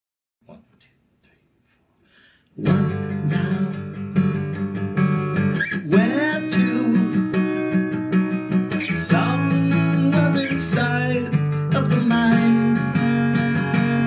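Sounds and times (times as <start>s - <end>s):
acoustic guitar strumming: 2.6s - 14.0s.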